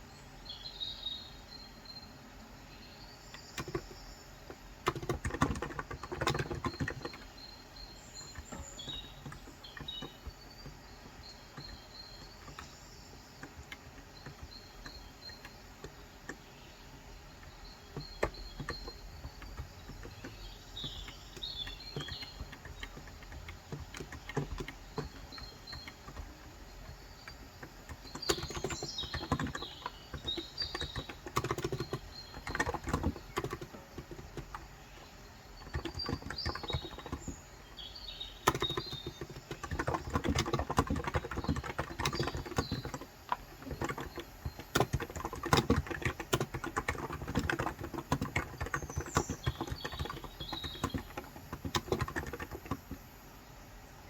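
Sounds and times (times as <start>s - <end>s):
birds chirping: 0.0s - 54.0s
keyboard typing: 3.3s - 53.2s.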